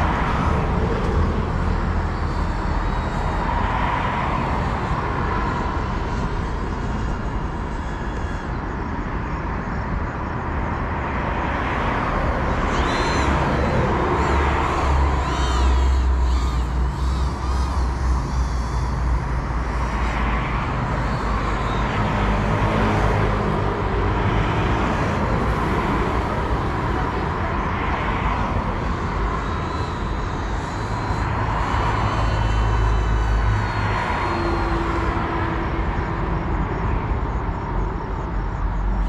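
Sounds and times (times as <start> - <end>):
drone motors buzzing: 0.0 - 39.0.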